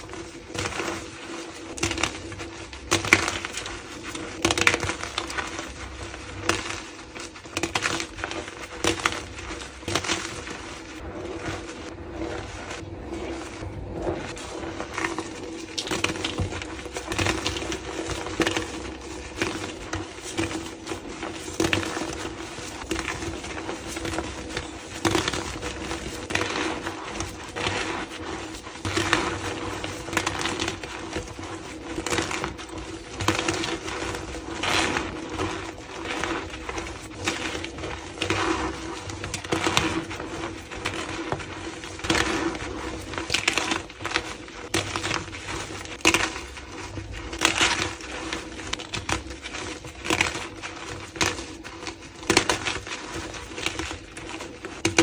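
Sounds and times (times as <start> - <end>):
chalk crunching and crumbling: 0.0 - 55.0.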